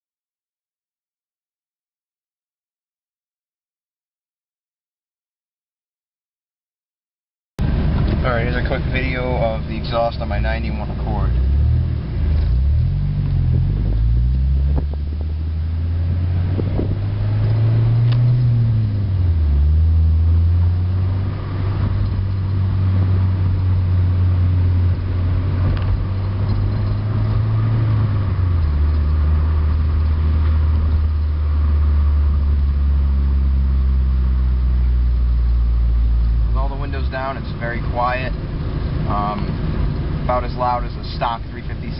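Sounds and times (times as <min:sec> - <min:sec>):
car engine exhaust drone: 0:07.6 - 0:41.9.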